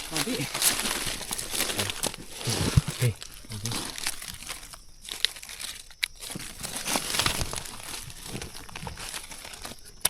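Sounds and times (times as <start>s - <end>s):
dry leaves crackling underfoot: 0.0s - 10.0s.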